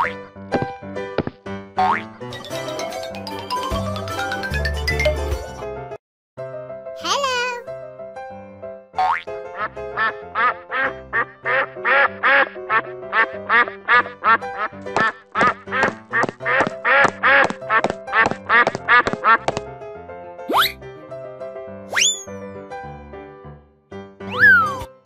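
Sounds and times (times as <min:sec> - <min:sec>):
cheerful background music: 0:00.0 - 0:25.0.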